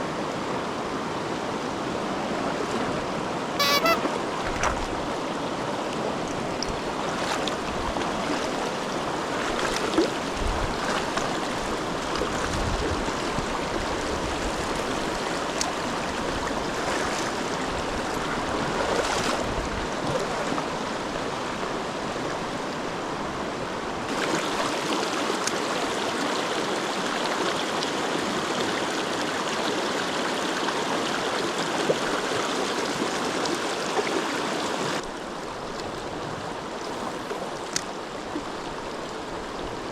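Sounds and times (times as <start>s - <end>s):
stream water rushing over rocks: 4.1s - 39.9s.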